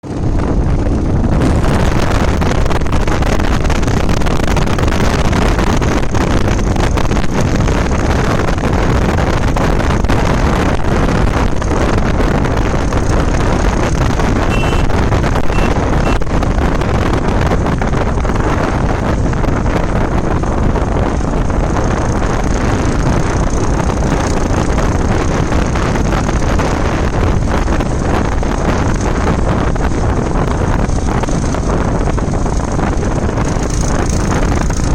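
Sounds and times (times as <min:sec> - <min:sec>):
motorcycle and road rumble: 0:00.0 - 0:34.9
wind rush on microphone: 0:00.0 - 0:34.9.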